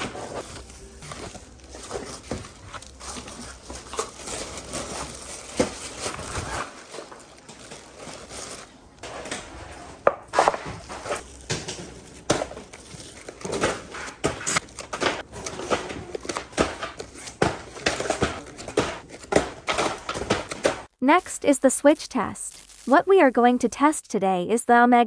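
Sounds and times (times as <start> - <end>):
objects being handled: 0.0 - 20.9.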